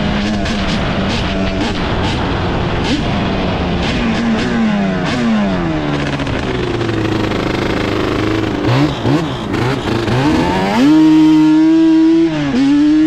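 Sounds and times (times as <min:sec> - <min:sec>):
two-stroke quad engine running: 0:00.0 - 0:13.0.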